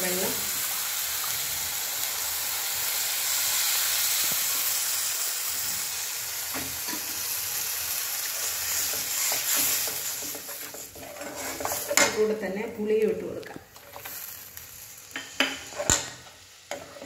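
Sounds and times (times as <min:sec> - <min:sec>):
curry paste sizzling in pan: 0:00.0 - 0:12.4, 0:13.7 - 0:17.0.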